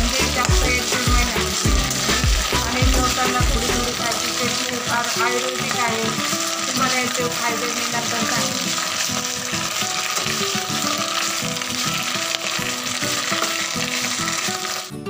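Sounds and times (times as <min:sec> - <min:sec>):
curry leaves sizzling in oil: 0:00.0 - 0:15.0
instrumental background music: 0:00.0 - 0:15.0.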